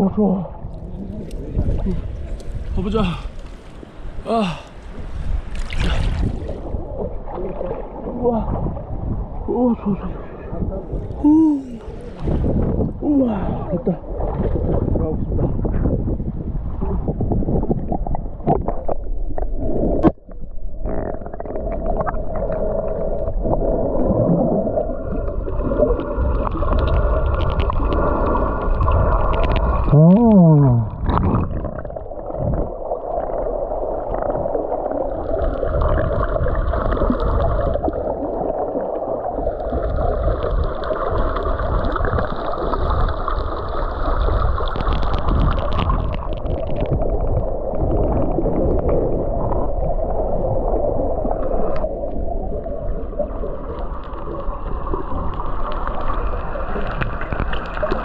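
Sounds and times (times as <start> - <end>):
underwater rumble and gurgling: 0.0 - 58.0.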